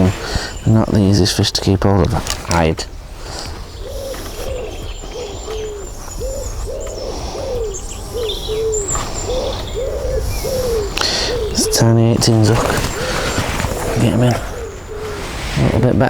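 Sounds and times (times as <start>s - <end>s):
bird hooting calls: 0.0s - 16.0s
small birds chirping faintly: 0.0s - 16.0s.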